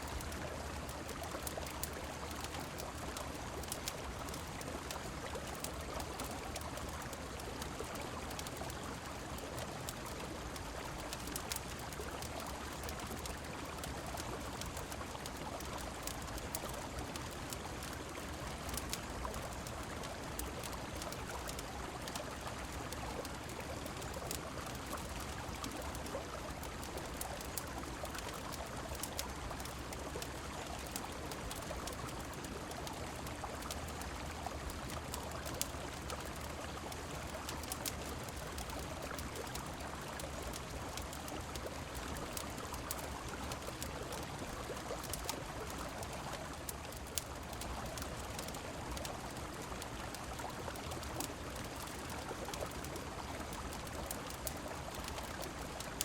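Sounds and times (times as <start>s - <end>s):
rain falling: 0.0s - 56.0s
wood fire crackling: 0.1s - 56.0s.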